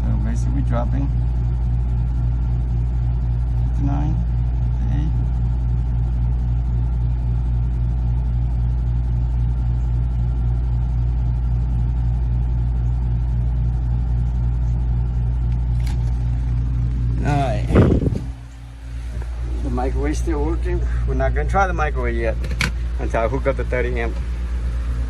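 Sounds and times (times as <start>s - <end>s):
air conditioner running: 0.0s - 25.0s
generator humming: 0.0s - 25.0s.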